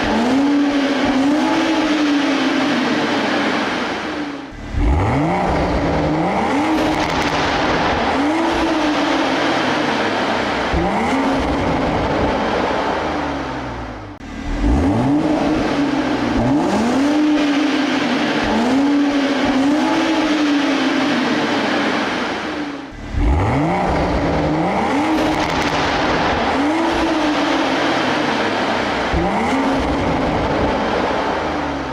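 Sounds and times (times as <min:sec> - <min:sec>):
car engine rev blips: 0:00.0 - 0:31.9.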